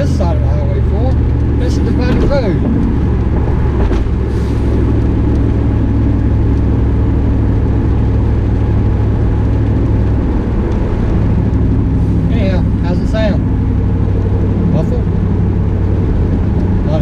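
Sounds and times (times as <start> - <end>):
car engine cruising drone: 0.0 - 17.0
road noise: 0.0 - 17.0.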